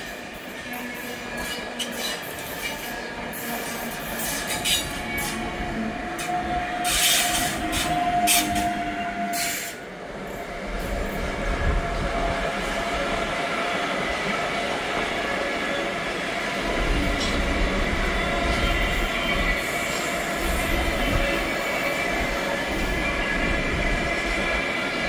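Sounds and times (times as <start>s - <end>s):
train rumble and clatter: 0.0s - 25.0s.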